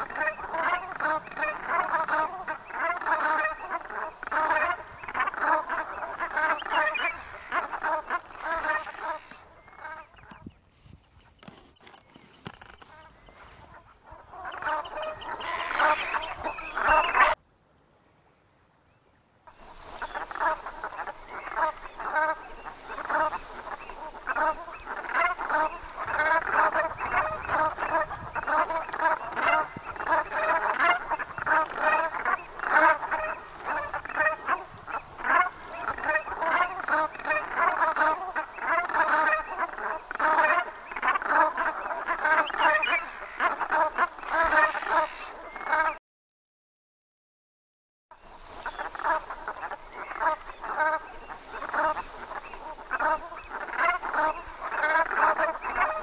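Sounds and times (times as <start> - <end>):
flock of geese calling: 0.0 - 10.4, 12.6 - 17.4, 19.5 - 46.0, 48.4 - 56.0.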